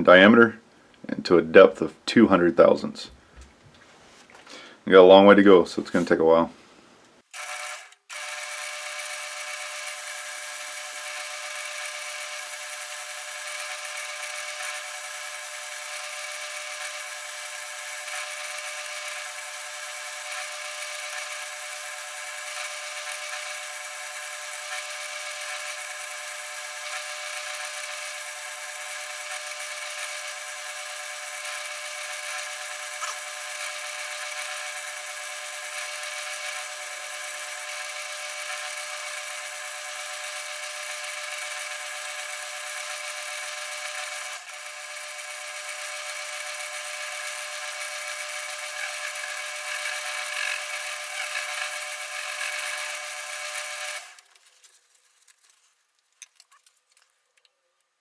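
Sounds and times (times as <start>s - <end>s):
metal lathe whining: 7.4s - 54.2s.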